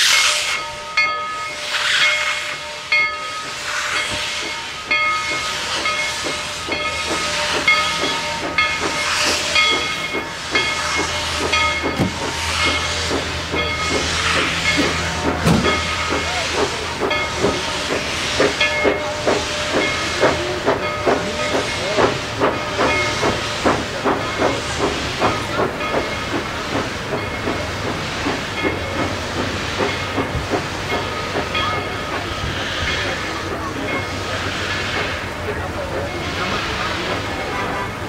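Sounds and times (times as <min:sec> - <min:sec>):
hiss of venting steam: 0:01.4 - 0:38.0
locomotive exhaust chuffs: 0:01.7 - 0:38.0.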